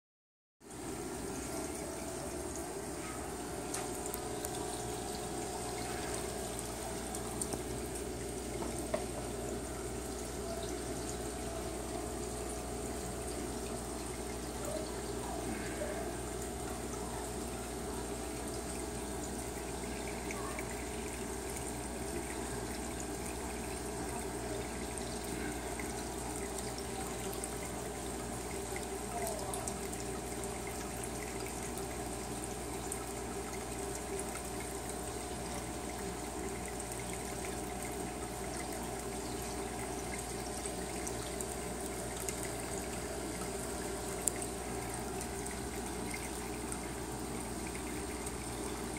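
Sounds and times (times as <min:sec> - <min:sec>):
aquarium water bubbling: 0:00.6 - 0:48.9.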